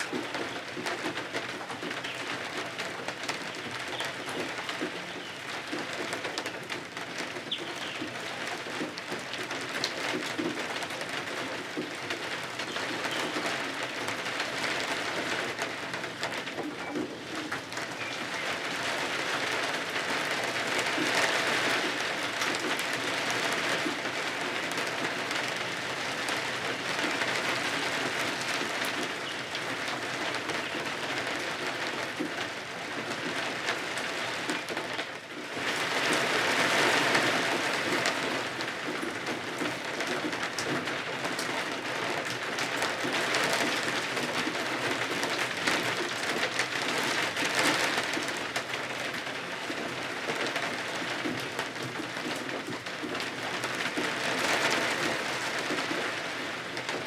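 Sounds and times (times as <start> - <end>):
rain on windows and roof: 0.0 - 57.0.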